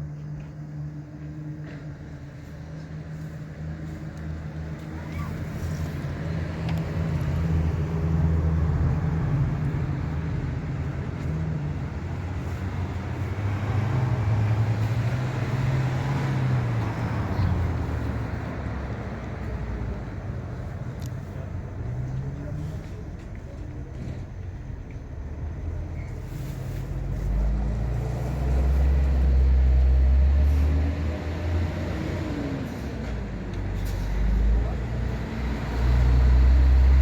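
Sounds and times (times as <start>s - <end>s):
car engine drone: 0.0s - 37.0s
tyre road noise: 0.0s - 37.0s.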